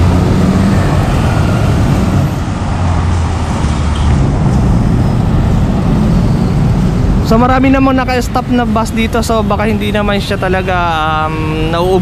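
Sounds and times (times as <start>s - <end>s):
car and motorcycle engines: 0.0s - 12.0s.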